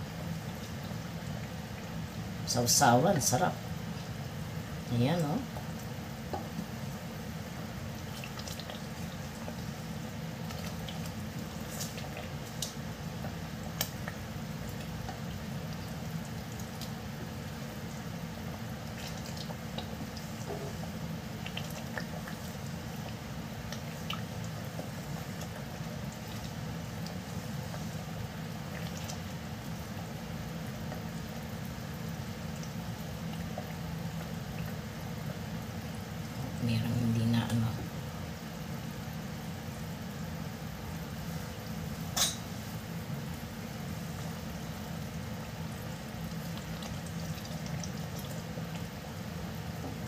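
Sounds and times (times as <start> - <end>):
sauce bubbling in a pot: 0.0 - 50.0.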